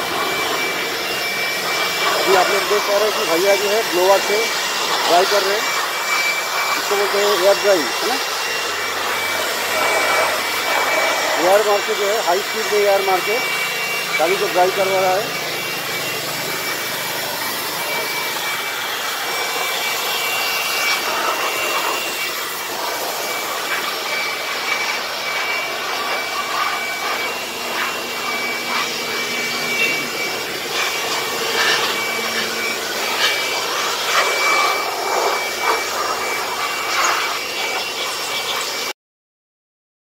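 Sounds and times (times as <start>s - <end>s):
electric air blower running: 0.0s - 38.9s.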